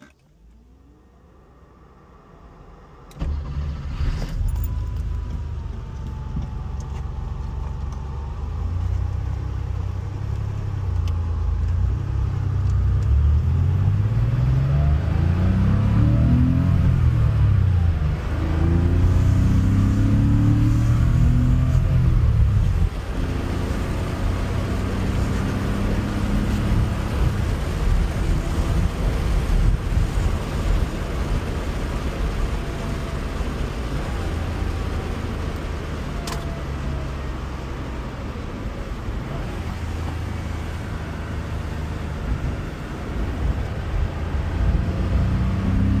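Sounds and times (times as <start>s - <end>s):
car engine revving through gears: 0.0s - 46.0s
road noise: 0.0s - 46.0s.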